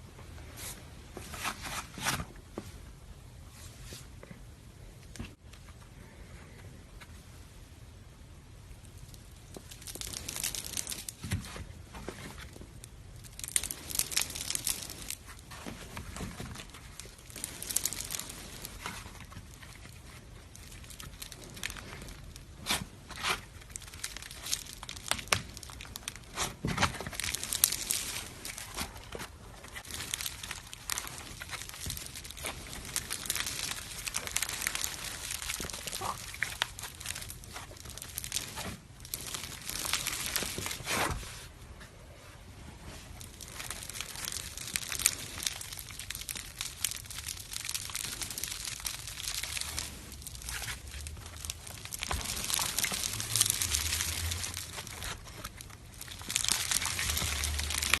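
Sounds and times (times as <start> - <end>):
slime squishing and popping: 8.8 - 41.0, 43.1 - 58.0.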